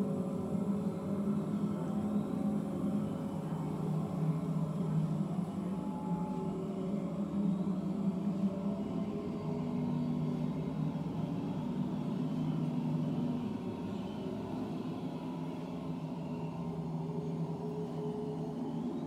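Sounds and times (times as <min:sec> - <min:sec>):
low drone of held tones: 0:00.0 - 0:19.0.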